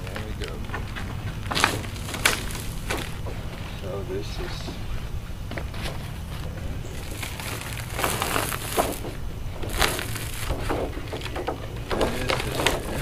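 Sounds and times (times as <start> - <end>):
sheet crinkling and crackling: 0.0 - 13.0.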